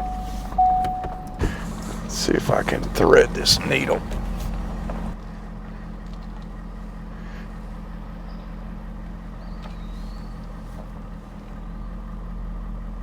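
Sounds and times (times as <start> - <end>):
truck engine running low: 0.0 - 13.0.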